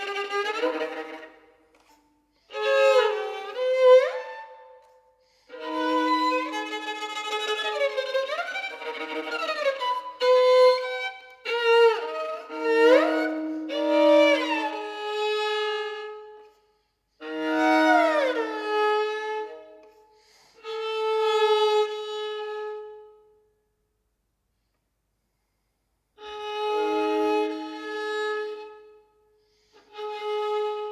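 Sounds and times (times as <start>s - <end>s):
solo violin: 0.0s - 16.6s, 17.2s - 23.3s, 26.2s - 30.9s.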